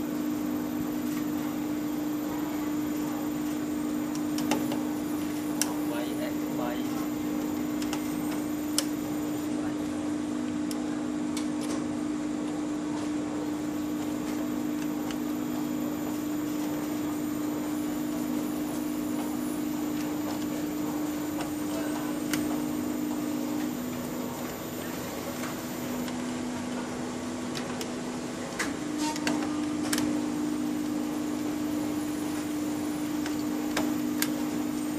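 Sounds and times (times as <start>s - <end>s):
electrical hum with fan rush: 0.0s - 34.9s.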